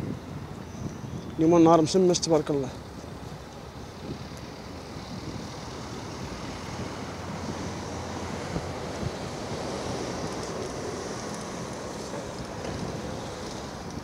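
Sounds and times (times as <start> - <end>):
road traffic driving past: 0.0 - 14.0
wind rushing over microphone: 0.0 - 14.0.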